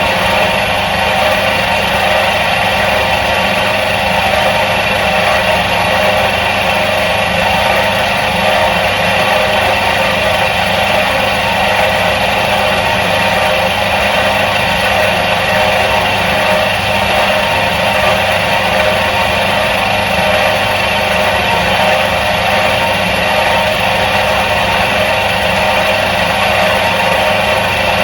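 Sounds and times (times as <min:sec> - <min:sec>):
washing machine motor humming: 0:00.0 - 0:28.0.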